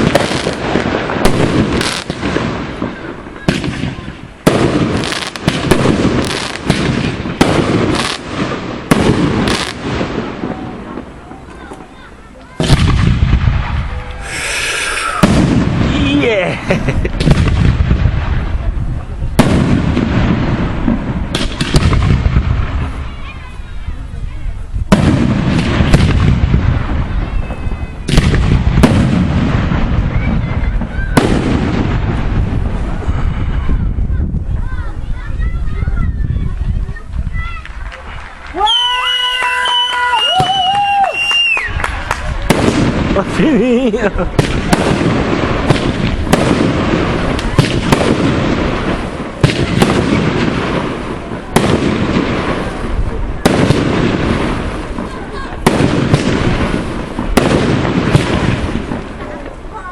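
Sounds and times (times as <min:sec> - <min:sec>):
rumble and crackle of fireworks: 0:00.0 - 0:59.9.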